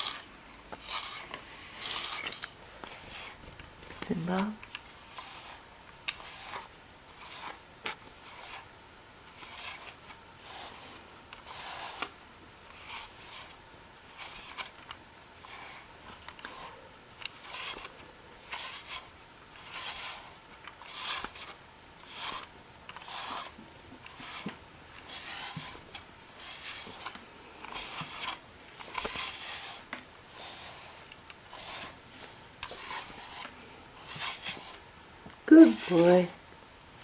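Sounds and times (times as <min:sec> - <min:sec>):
brush strokes through cat fur: 0:00.0 - 0:08.7, 0:09.3 - 0:34.8, 0:35.5 - 0:36.4.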